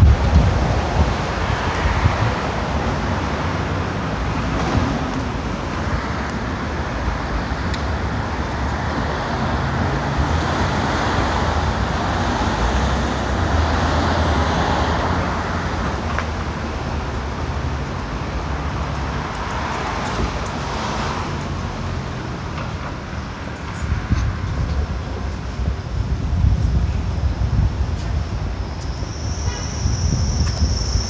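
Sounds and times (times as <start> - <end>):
cars passing on street: 0.0 - 31.0.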